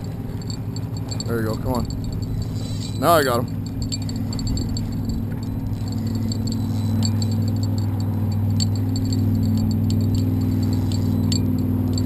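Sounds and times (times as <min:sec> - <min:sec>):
fishing reel clicking: 0:00.0 - 0:12.0
motorboat engine hum: 0:00.0 - 0:12.0.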